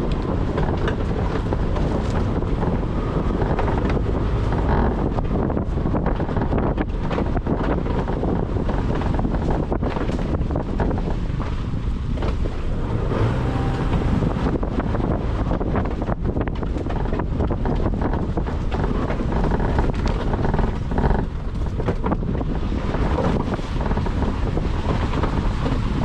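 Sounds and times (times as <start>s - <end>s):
car engine: 0.0s - 26.0s
wind buffeting microphone: 0.0s - 26.0s.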